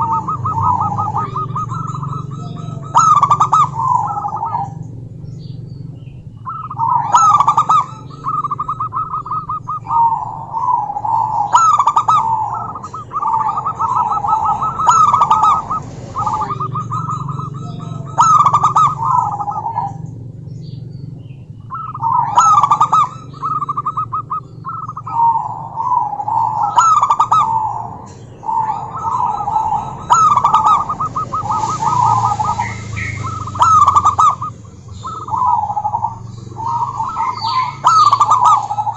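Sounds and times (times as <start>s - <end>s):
dove cooing: 0.0s - 38.9s
steady low hum: 0.0s - 38.9s.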